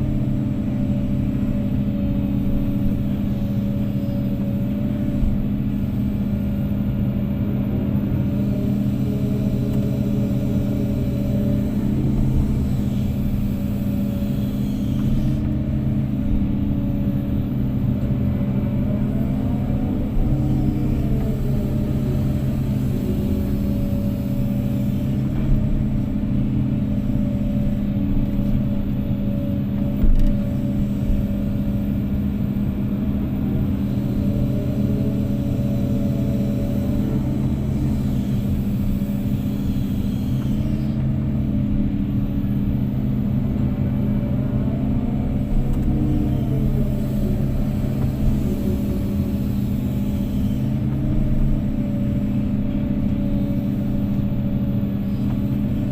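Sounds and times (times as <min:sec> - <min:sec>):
excavator diesel engine running: 0:00.0 - 0:55.9
rising and falling whine: 0:00.0 - 0:55.9.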